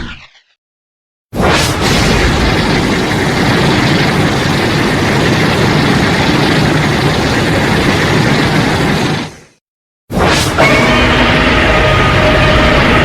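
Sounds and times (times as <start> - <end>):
explosion rumble: 1.4 - 13.0.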